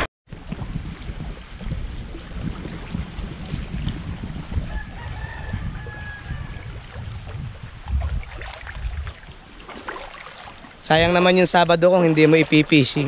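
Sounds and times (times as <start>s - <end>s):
wind rumbling on microphone: 0.0s - 13.0s
water lapping: 0.3s - 13.0s.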